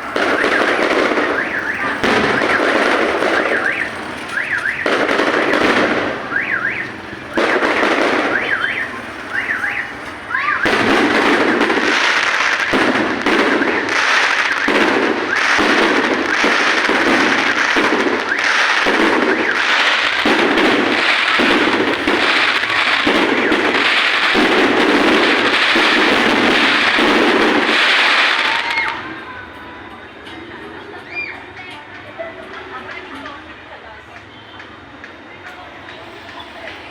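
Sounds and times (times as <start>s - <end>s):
fireworks bangs and crackling: 0.0s - 30.4s, 31.0s - 36.9s.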